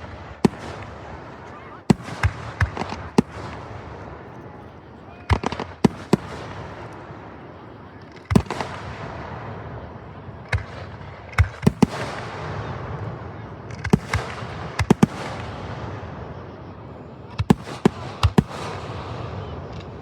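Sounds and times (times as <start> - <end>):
fireworks bangs: 0.0 - 20.0
fireworks crackle and rumble: 0.0 - 20.0.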